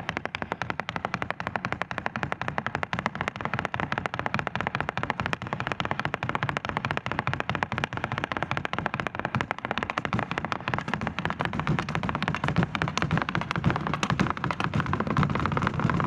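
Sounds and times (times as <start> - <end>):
dance footwork on stage floor: 0.0 - 16.0.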